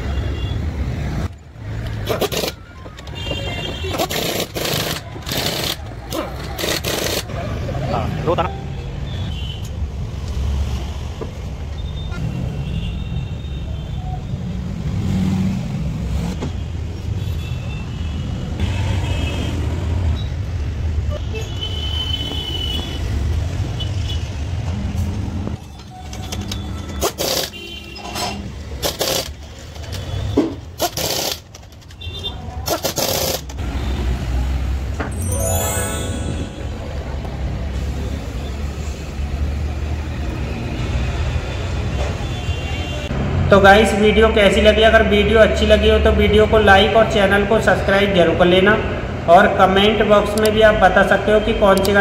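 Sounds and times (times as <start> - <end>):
street traffic rumble: 0.0 - 35.3, 36.0 - 52.0.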